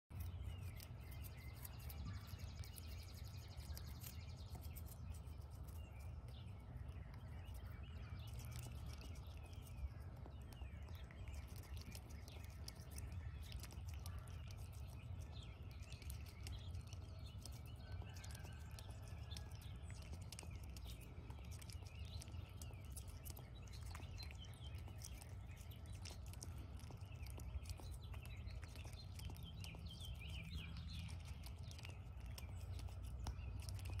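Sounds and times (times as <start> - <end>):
small birds chirping: 0.0 - 34.0
low outdoor rumble: 0.1 - 34.0.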